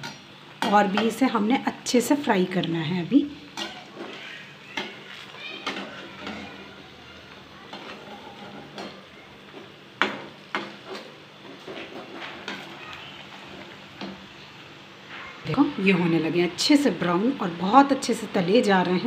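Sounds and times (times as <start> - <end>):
bread frying in oil sizzling: 0.0 - 19.0.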